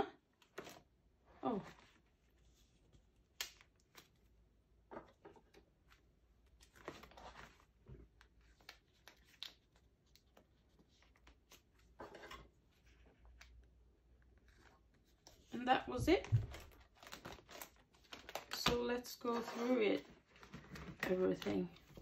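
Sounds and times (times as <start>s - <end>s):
plastic sleeves rustling: 0.2s - 22.0s.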